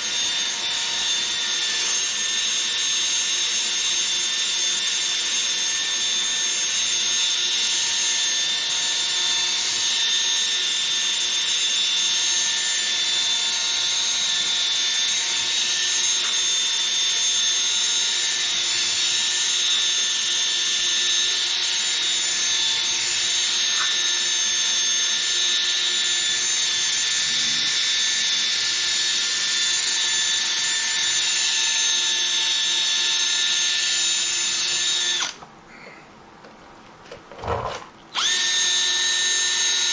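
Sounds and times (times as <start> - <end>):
cordless drill motor whine: 0.0 - 35.4, 38.1 - 39.9.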